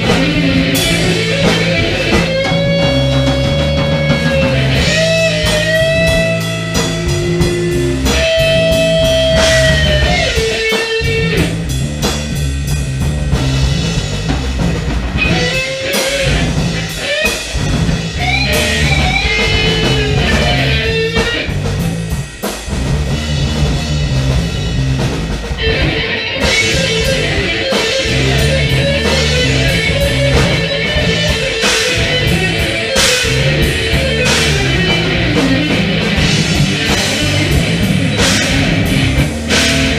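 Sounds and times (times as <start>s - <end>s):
lead guitar bending notes: 0.0s - 22.2s, 23.1s - 39.9s
bass guitar: 0.0s - 39.9s
drum kit: 0.0s - 39.9s.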